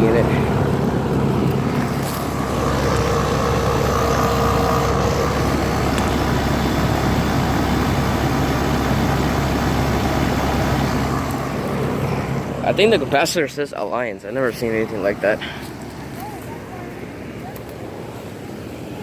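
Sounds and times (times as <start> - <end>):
compressor humming: 0.0 - 19.0
condenser fan rushing: 0.0 - 19.0.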